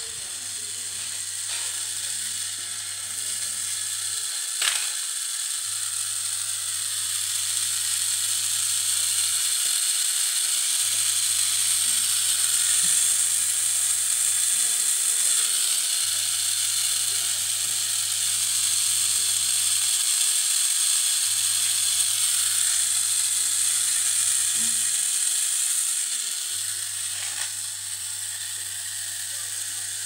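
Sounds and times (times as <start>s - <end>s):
small motor whirring: 0.0s - 30.0s.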